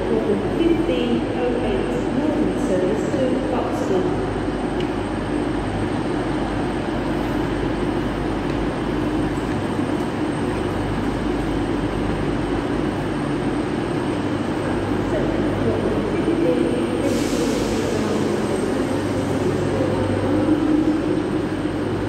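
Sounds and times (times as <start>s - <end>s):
trains humming: 0.0s - 22.0s.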